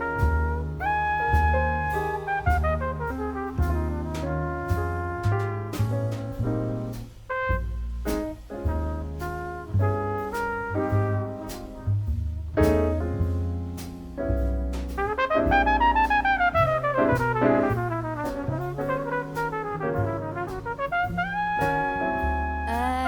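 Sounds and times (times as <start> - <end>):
trumpet-like brass melody: 0.0 - 13.3, 14.9 - 23.0
bass line: 0.0 - 23.0.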